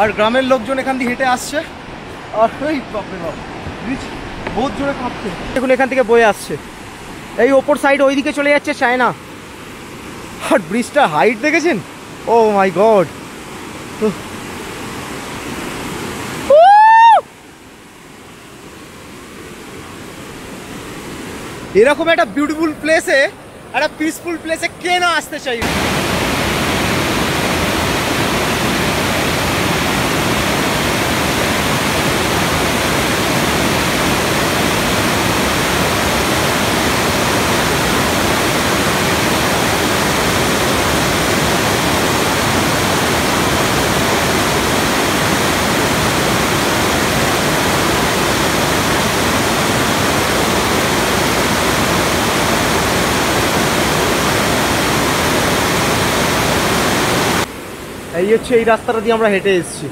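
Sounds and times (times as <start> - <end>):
river rushing over boulders: 0.0 - 59.5.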